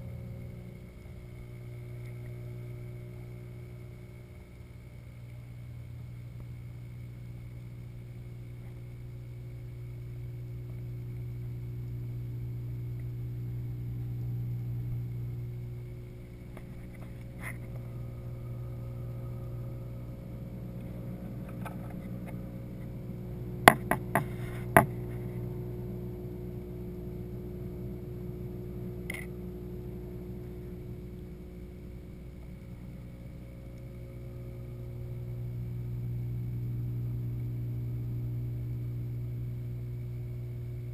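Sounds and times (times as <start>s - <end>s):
aquarium pump hum underwater: 0.0s - 40.9s.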